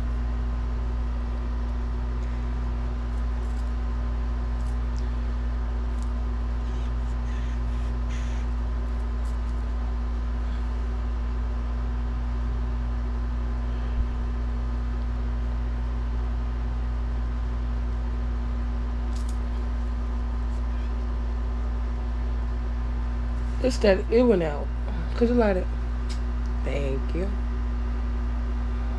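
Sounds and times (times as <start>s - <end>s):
low machine hum: 0.0s - 28.9s.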